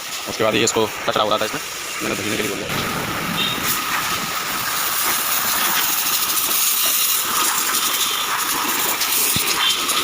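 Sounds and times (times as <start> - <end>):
high-pressure water jet hissing: 0.0 - 10.0.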